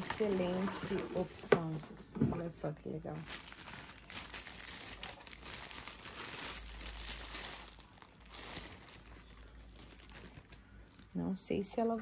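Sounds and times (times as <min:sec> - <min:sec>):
plastic packaging crinkling: 0:00.0 - 0:01.9, 0:03.1 - 0:11.2.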